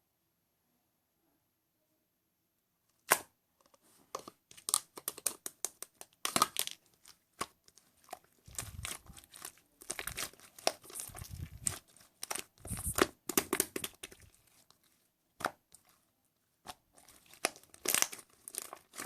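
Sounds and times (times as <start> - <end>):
crinkly material crumpling and tearing: 3.7 - 19.0.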